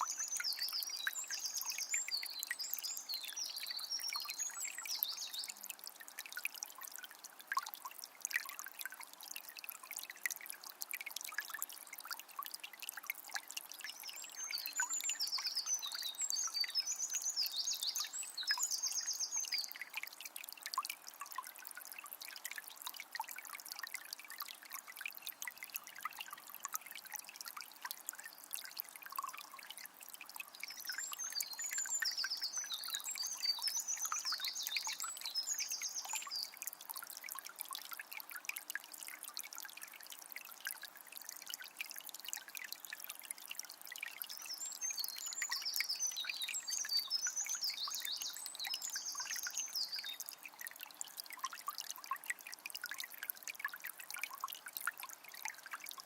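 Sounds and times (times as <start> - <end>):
spring water trickling: 0.0 - 56.0.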